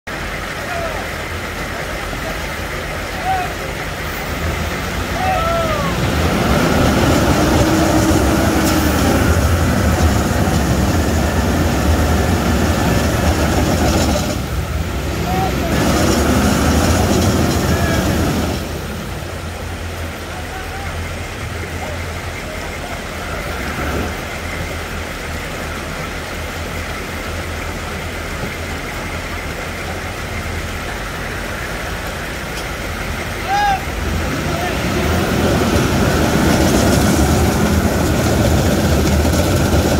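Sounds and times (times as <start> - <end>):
heavy truck engines under load: 0.1 - 39.9
water rushing and splashing: 0.1 - 39.9.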